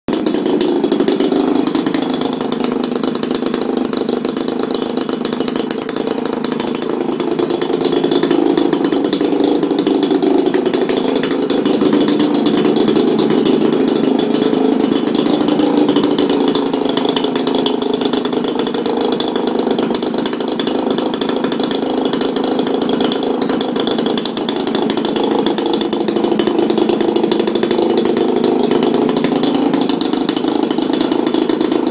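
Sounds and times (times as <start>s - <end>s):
model aircraft engine running: 0.1s - 31.9s.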